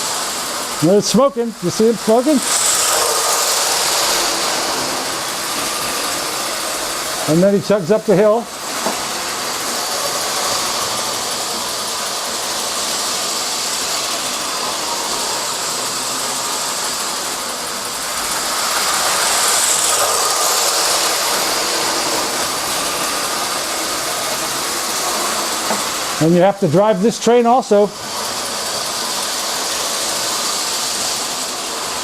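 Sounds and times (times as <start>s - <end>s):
model steam locomotive chugging: 0.0s - 32.0s
steam hiss: 0.0s - 32.0s.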